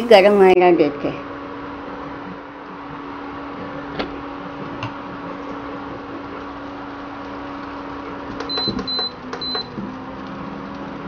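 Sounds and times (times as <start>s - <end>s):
induction cooktop humming: 0.0s - 11.0s.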